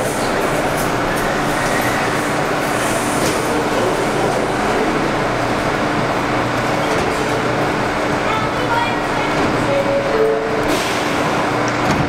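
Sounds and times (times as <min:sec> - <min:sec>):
subway train hum and hiss: 0:00.0 - 0:12.0.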